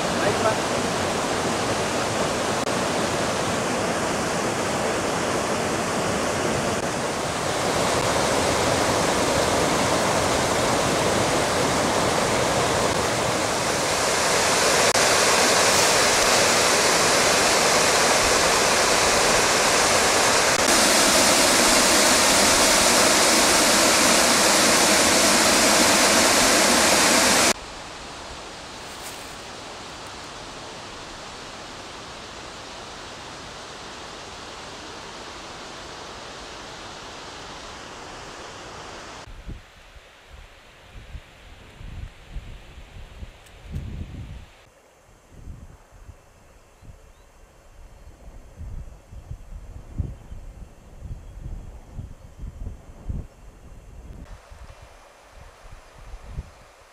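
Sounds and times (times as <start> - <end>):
rushing stream and waterfall: 0.0 - 48.4, 54.2 - 56.9.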